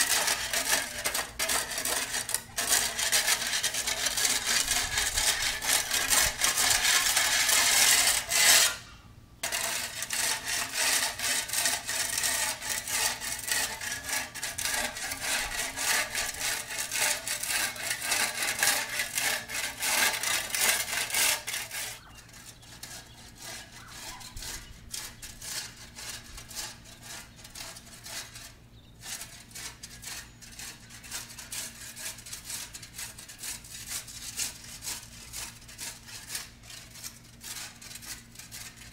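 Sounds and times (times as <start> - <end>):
shovel scraping on concrete: 0.0 - 38.9.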